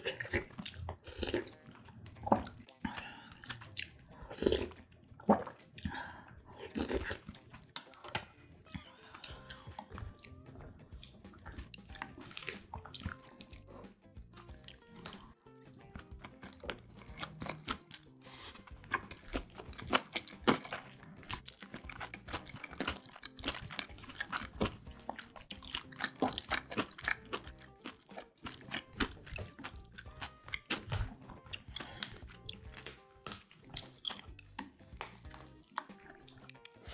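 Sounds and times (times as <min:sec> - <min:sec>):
mouth chewing clicks and smacks: 0:00.0 - 0:06.0, 0:09.2 - 0:36.9
soft background music: 0:00.0 - 0:36.9.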